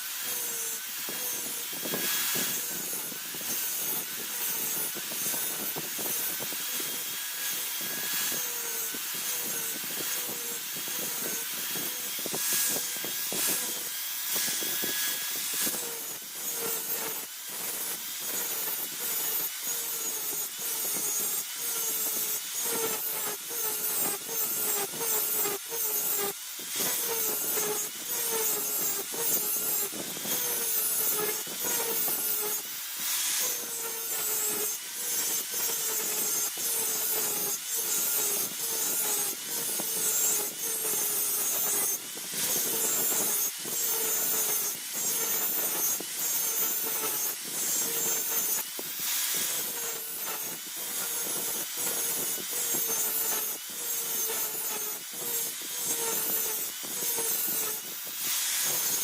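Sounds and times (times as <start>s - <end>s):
file strokes on steel blade: 0.0s - 59.0s.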